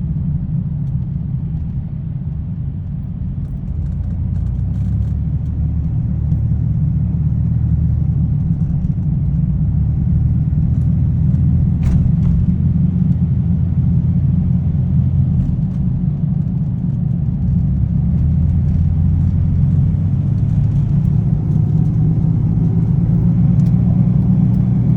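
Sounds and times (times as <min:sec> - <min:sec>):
road traffic: 0:00.0 - 0:24.9
vehicle engine rumbling: 0:00.0 - 0:24.9.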